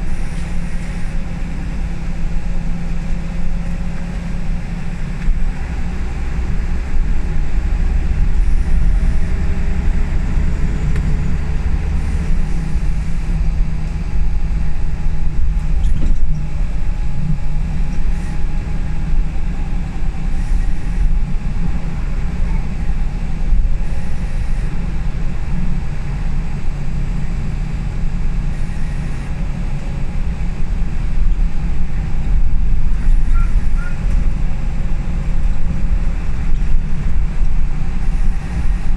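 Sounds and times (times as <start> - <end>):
bus body rattling: 0.0 - 38.9
bus engine drone: 0.0 - 38.9
rising whine: 0.0 - 38.9.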